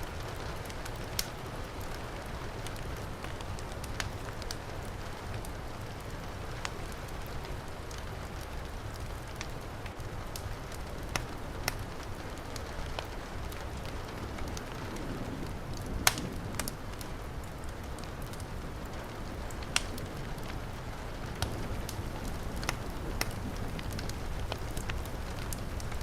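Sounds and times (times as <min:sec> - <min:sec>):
heavy rain hiss: 0:00.0 - 0:26.0
wood fire crackling and popping: 0:00.0 - 0:26.0.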